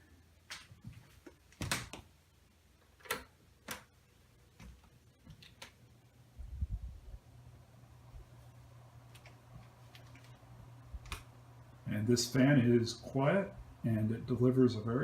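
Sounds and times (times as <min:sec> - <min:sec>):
table fan humming: 0:00.0 - 0:15.0.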